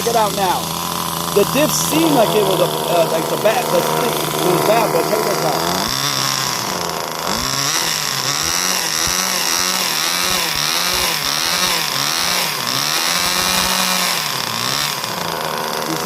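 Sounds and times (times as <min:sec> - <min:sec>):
small two-stroke engine revving: 0:00.0 - 0:16.0.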